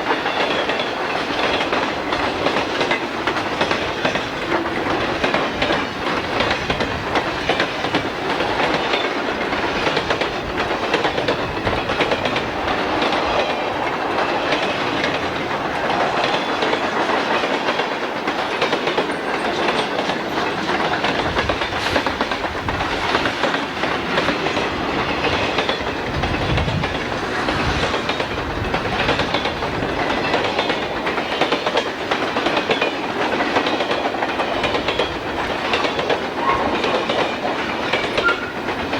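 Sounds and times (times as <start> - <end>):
train wheels clicking over rail joints: 0.0 - 38.9.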